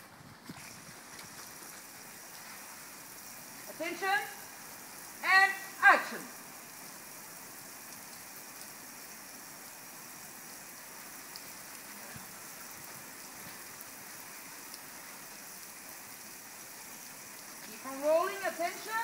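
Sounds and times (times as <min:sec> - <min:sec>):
rain hissing on wet street: 0:00.0 - 0:19.0.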